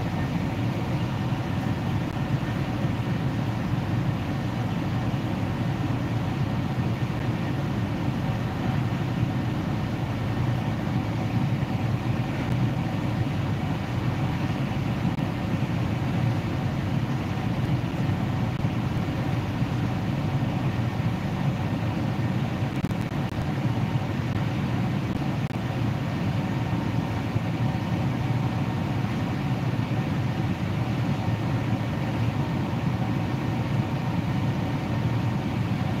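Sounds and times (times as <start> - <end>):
faint hum tones: 0.0 - 36.0
low mechanical drone: 0.0 - 36.0.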